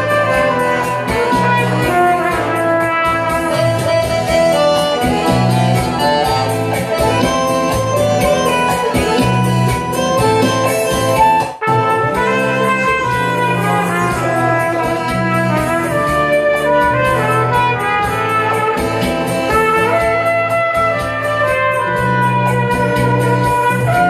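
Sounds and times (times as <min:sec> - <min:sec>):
backing track with steady beat: 0:00.0 - 0:24.0
trumpet melody: 0:00.0 - 0:24.0.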